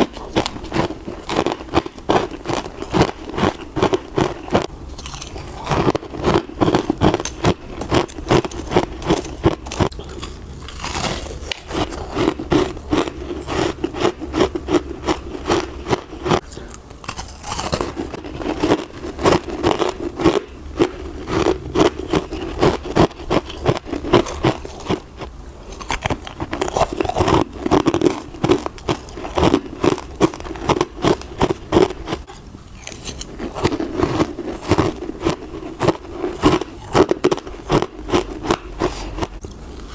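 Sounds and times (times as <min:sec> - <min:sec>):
crunching of frozen ice: 0:00.0 - 0:39.9.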